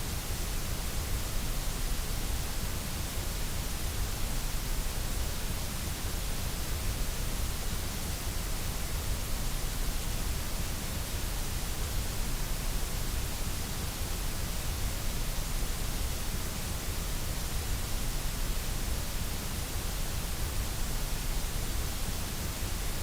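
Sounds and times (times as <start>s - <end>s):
white noise hiss: 0.0s - 23.0s.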